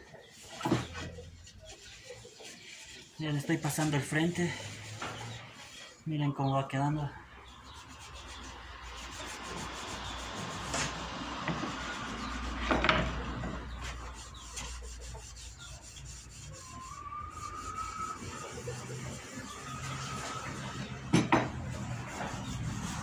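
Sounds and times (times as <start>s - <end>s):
cloth scrubbing on wood: 0.3s - 6.0s, 7.6s - 23.0s.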